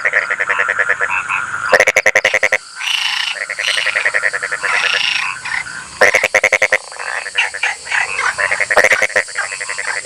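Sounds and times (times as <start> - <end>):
frogs croaking: 0.0 - 10.0.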